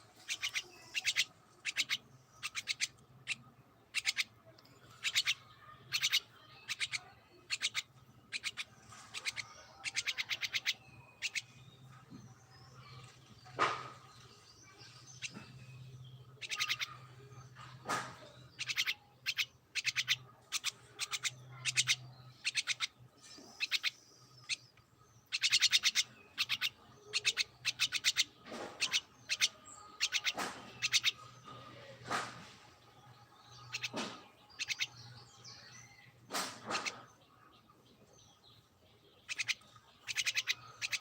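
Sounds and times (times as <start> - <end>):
birds chirping: 0.0 - 41.0
sweeping bird calls: 0.0 - 41.0.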